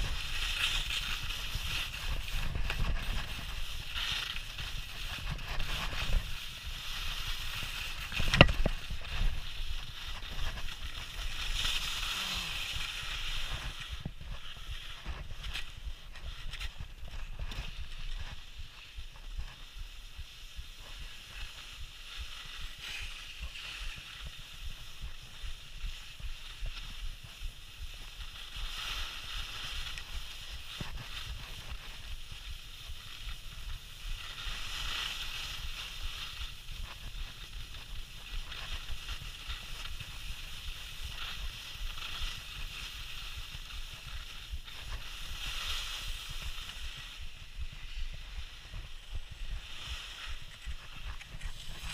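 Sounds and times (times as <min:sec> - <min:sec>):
skis scraping over snow: 0:00.0 - 0:51.9.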